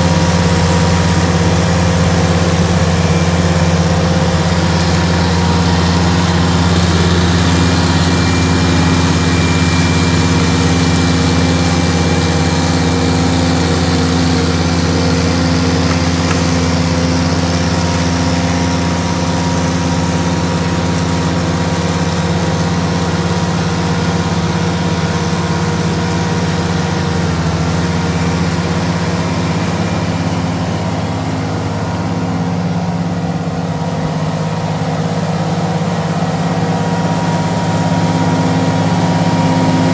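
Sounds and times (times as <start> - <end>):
flail mower cutting grass: 0.0 - 39.9
loader engine hum: 0.0 - 39.9.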